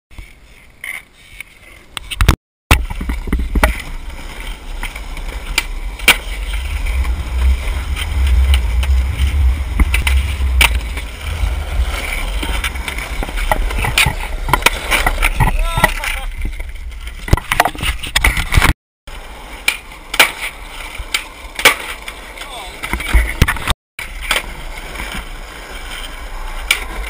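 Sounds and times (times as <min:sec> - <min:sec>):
skateboard wheels rolling on asphalt: 0:00.1 - 0:27.0
skateboard clacking: 0:01.8 - 0:27.0.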